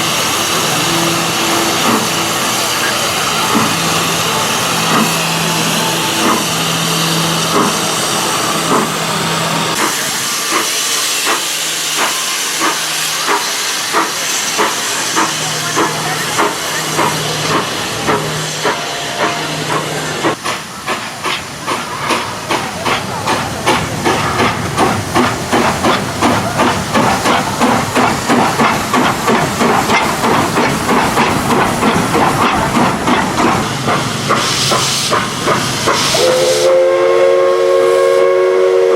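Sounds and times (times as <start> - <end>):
rhythmic locomotive chuffing beats: 0.0 - 37.5
steam locomotive hissing steam: 0.0 - 38.9.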